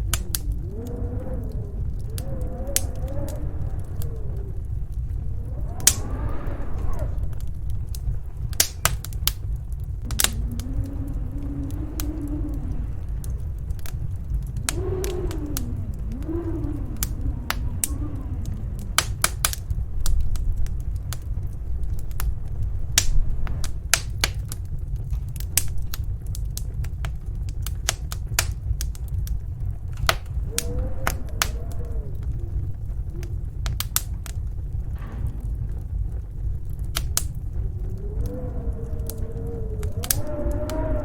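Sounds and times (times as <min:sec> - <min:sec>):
faint wind howl: 0:00.0 - 0:41.0
storm wind rumble: 0:00.0 - 0:41.0
wood fire crackling: 0:00.0 - 0:41.0.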